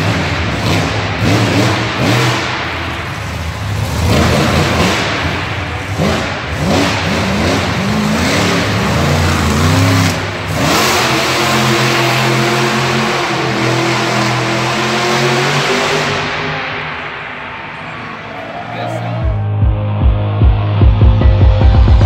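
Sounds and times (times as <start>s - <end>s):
monster truck engine revving: 0.0s - 19.4s.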